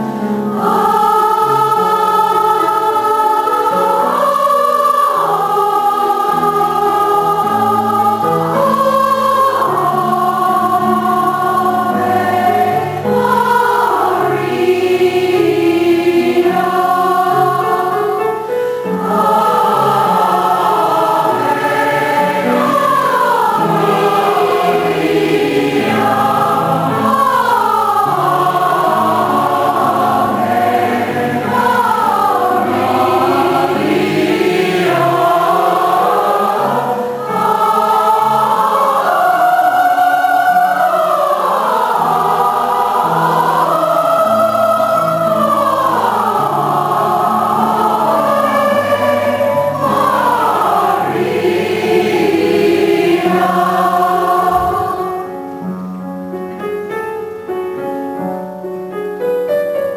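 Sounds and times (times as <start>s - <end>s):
choir singing in parts: 0.0s - 57.9s.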